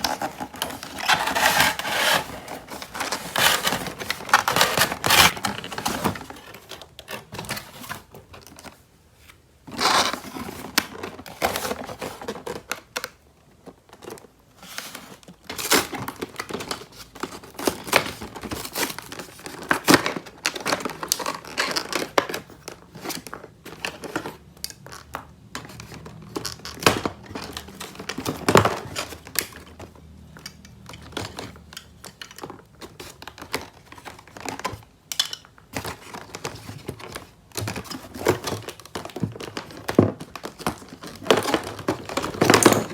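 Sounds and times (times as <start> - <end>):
packaging crinkling and tearing: 0.0 - 8.8, 13.8 - 34.9, 35.8 - 42.9.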